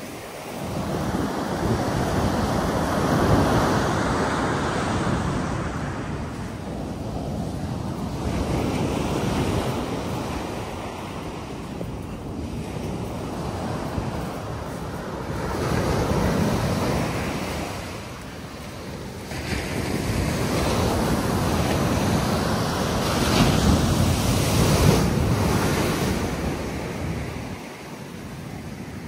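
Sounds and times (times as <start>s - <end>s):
surf breaking on beach: 0.0s - 27.8s
wind on microphone: 0.0s - 29.0s.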